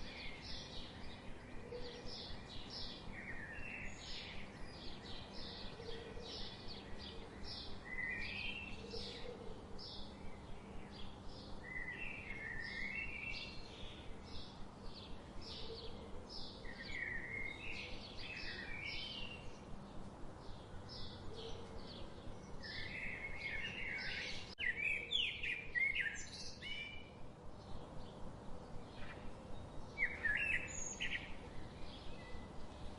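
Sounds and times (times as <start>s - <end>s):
songbirds chirping and singing: 0.0s - 32.9s.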